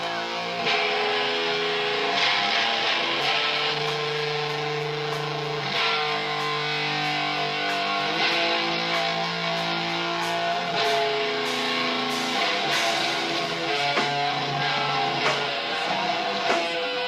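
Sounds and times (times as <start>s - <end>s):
guitar chords: 0.0s - 17.0s
live rock band: 0.0s - 17.0s.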